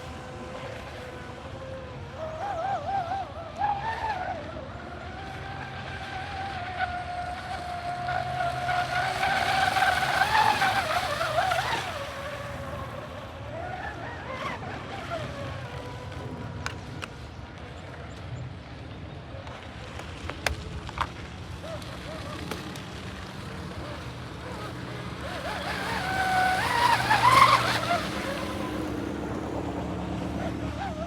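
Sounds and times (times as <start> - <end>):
electric motor whining: 0.1 - 17.1, 21.8 - 31.0.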